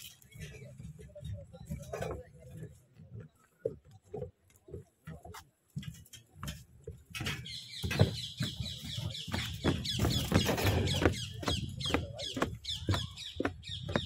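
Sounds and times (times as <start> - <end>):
footsteps on metal grating: 0.0 - 14.0
footsteps on plastic pontoon: 0.0 - 14.0.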